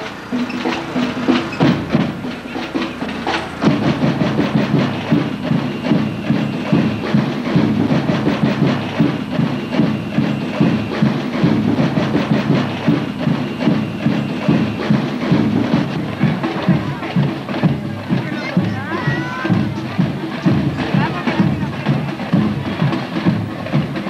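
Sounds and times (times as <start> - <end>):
samba percussion beat: 0.0 - 24.0.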